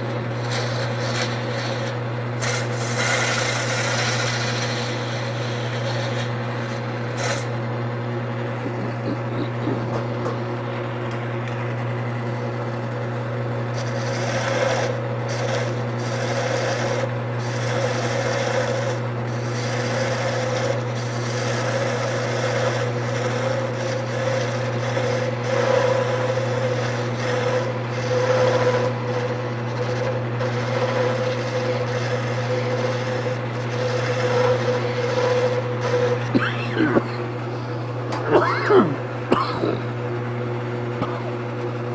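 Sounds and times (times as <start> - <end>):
gouge scraping spinning wood: 0.0 - 11.5, 12.1 - 39.9, 41.0 - 41.9
lathe motor hum: 0.0 - 41.9.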